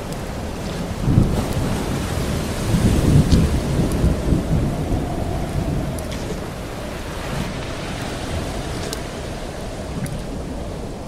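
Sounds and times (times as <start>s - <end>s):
hiss of moving water: 0.0s - 11.0s
waves rumbling on rocks: 0.0s - 11.0s.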